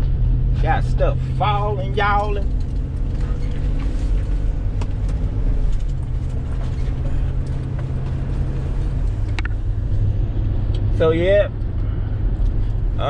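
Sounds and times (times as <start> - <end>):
van engine and road drone: 0.0 - 13.0.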